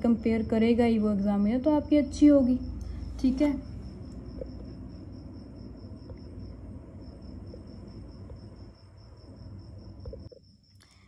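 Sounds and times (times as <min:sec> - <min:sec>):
low background rumble: 0:00.0 - 0:10.6.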